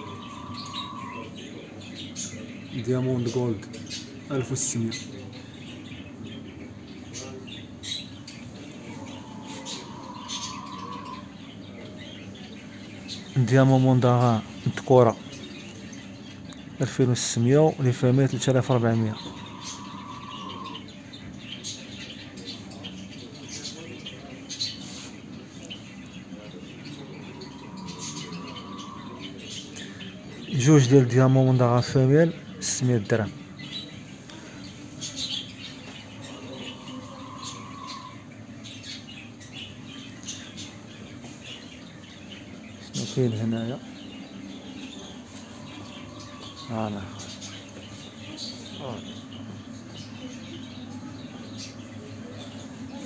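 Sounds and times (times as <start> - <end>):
finches chirping: 0.0 - 53.0
low background noise: 0.0 - 53.0
murmur of background voices: 0.0 - 53.0.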